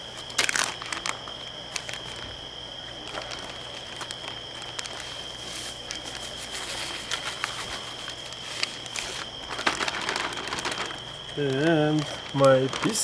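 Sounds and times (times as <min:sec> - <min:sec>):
faint high-pitched whine: 0:00.0 - 0:13.0
plastic bag crinkling: 0:00.2 - 0:13.0.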